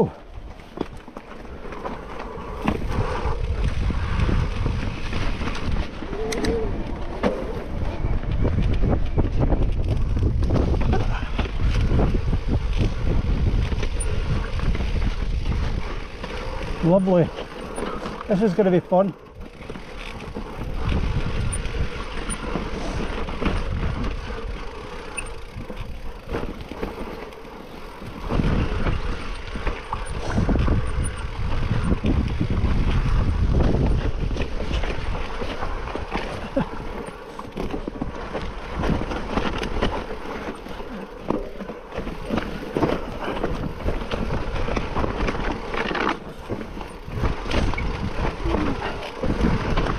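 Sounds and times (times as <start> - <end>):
wind rumble on microphone: 0.0 - 18.6, 19.3 - 49.9
bike rattling over bumps: 0.0 - 49.9
bike tyres rumbling over dirt: 0.0 - 49.9.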